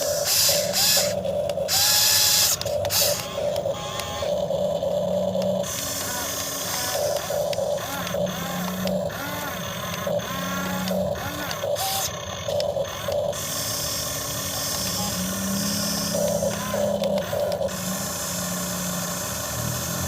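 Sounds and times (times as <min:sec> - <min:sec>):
low hums: 0:00.0 - 0:20.0
small electric motors whining: 0:00.0 - 0:20.0.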